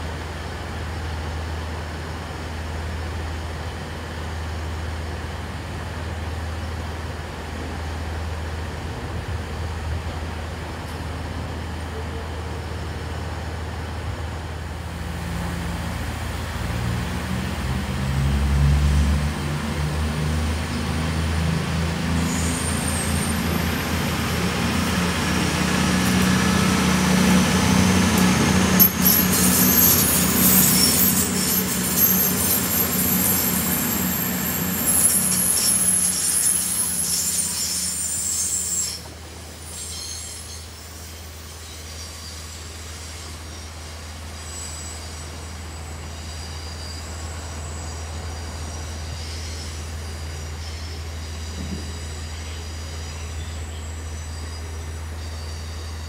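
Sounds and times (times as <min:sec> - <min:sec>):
train engine hum: 0:00.0 - 0:56.0.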